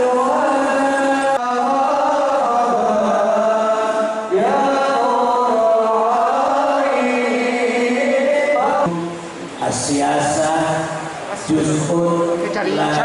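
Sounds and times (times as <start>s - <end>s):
melodic vocal chanting: 0.0s - 13.0s.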